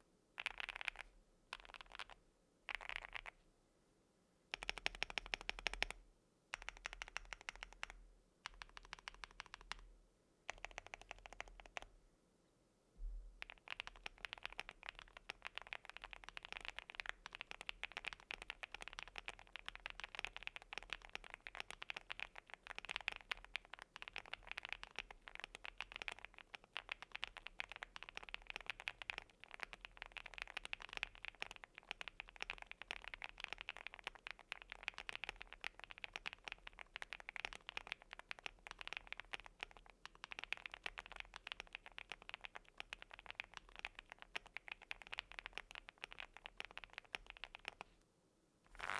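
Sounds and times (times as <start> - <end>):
fast keyboard typing: 0.4 - 3.3, 4.5 - 6.0, 6.6 - 9.8, 10.5 - 11.9, 13.4 - 47.8.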